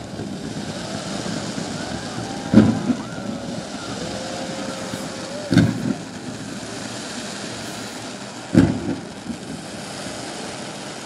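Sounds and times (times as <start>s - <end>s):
firework pops: 0.0s - 10.2s
firework bang: 0.0s - 10.3s.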